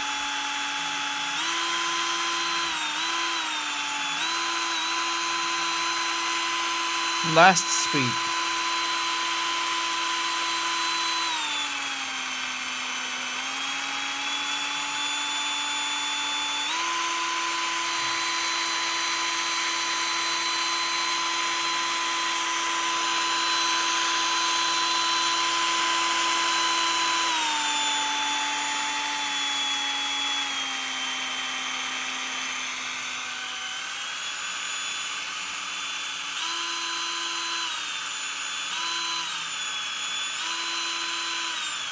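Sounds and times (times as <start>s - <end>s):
cordless drill motor whine: 0.1s - 6.5s, 9.8s - 41.9s.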